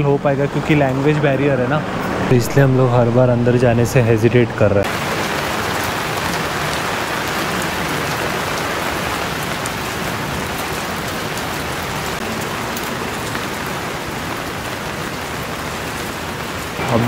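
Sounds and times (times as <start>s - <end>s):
rain on wet pavement: 0.0s - 1.8s, 4.8s - 17.0s.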